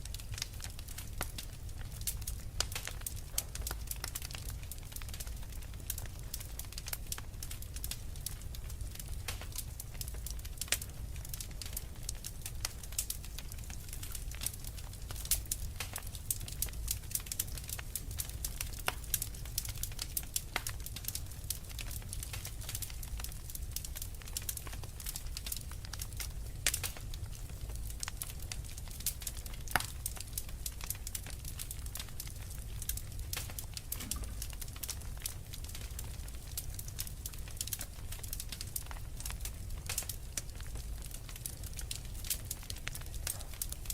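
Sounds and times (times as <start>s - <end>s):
low fire rumble: 0.0s - 43.9s
wood fire crackling: 0.0s - 43.9s.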